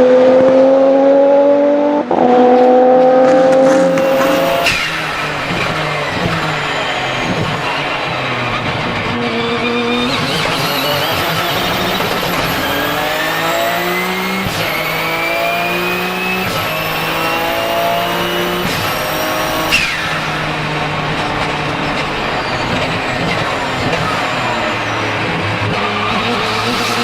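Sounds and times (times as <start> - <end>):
race car engine accelerating: 0.0 - 27.0
engine pop: 3.2 - 27.0
turbo whistle: 3.6 - 27.0.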